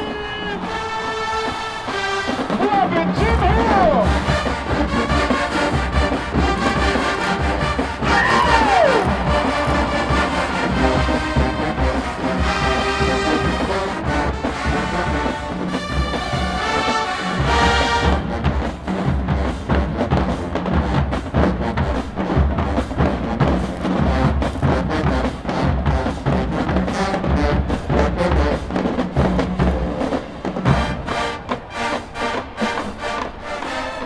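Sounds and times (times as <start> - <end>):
marching band playing: 0.0 - 34.0.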